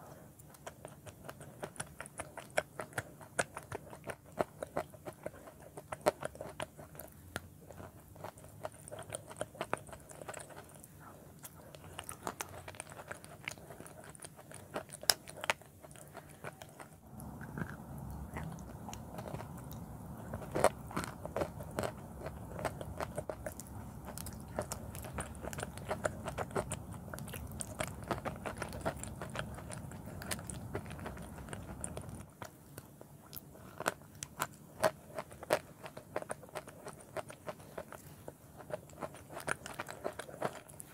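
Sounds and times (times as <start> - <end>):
crunching and chewing chalk: 0.0 - 40.9.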